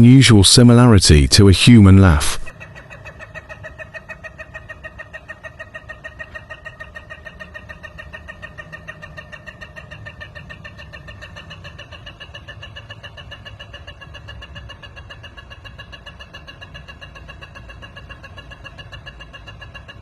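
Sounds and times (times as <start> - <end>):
chicken laughing crow: 2.5 - 20.0.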